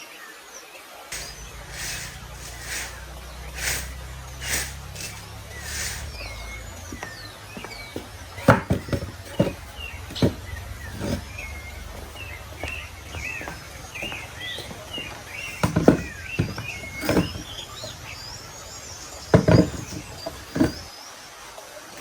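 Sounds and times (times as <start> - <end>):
loud knocks: 1.2 - 18.4, 19.2 - 20.9
birds chirping and warbling: 1.2 - 22.0.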